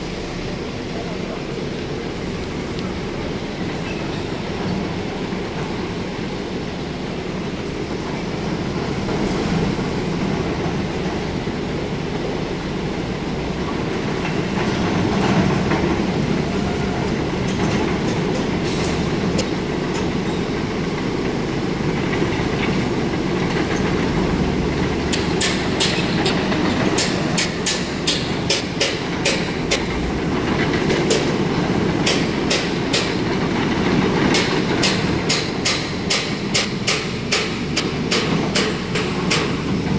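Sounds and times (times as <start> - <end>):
moving vehicle rumble: 0.0 - 39.9.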